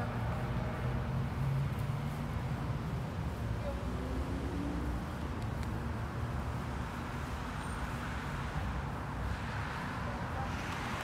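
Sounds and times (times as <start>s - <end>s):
low rumble of cars: 0.0s - 11.0s.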